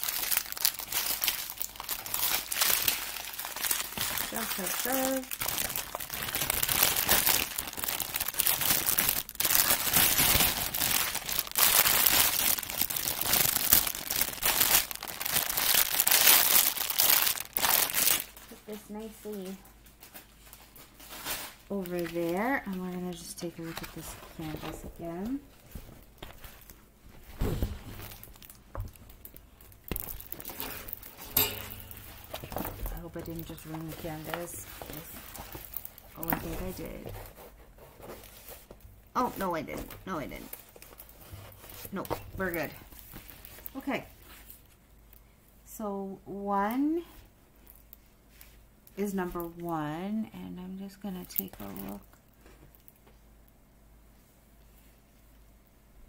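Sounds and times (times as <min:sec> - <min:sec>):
plastic bags crinkling: 0:00.0 - 0:44.8, 0:51.1 - 0:53.0.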